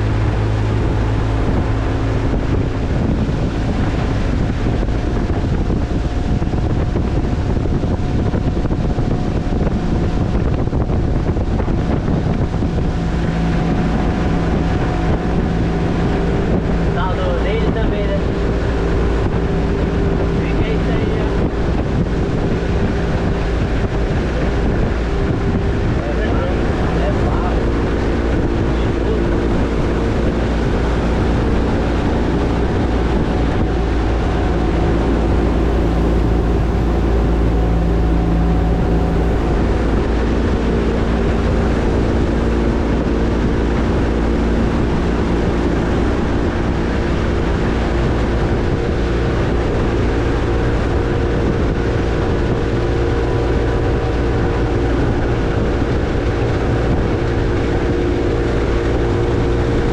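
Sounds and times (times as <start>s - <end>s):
boat motor droning: 0.0s - 59.9s
water rushing: 0.0s - 59.9s.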